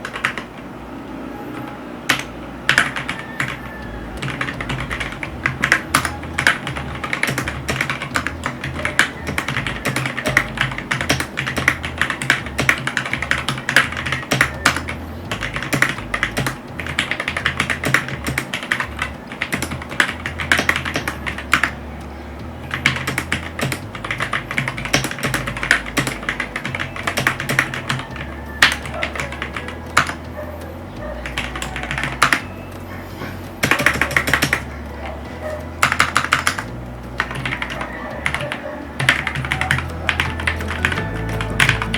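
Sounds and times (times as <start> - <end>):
mechanical keyboard typing: 0.0 - 0.7, 1.6 - 41.9.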